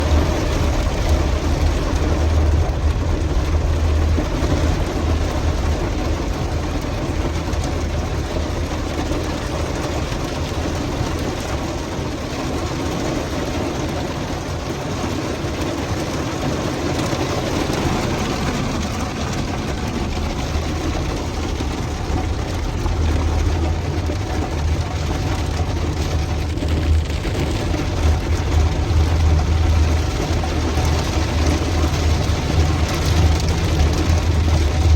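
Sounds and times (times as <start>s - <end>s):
low rumble: 0.0s - 12.6s, 16.4s - 34.9s
heavy rain pouring: 0.0s - 34.9s.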